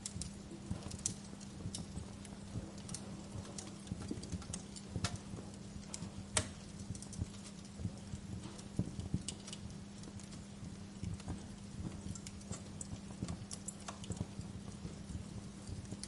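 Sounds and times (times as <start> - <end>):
steady low hum: 0.0 - 16.0
wood fire crackling and popping: 0.0 - 16.0.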